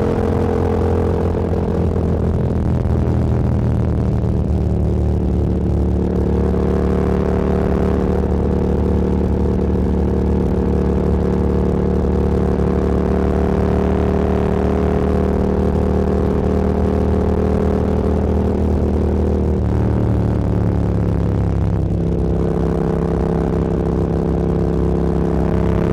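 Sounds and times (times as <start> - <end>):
motorcycle engine cruising: 0.0 - 25.9
road and wind rush: 0.0 - 25.9.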